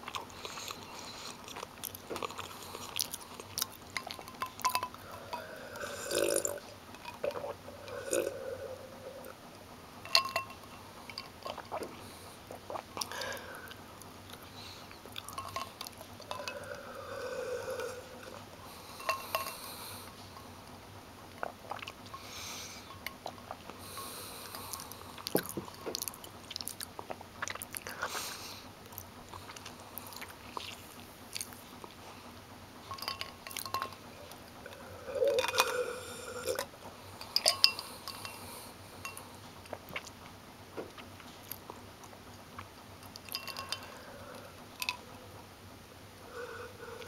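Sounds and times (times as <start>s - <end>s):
crunchy chewing: 0.0s - 9.4s, 10.1s - 32.0s, 36.4s - 45.0s.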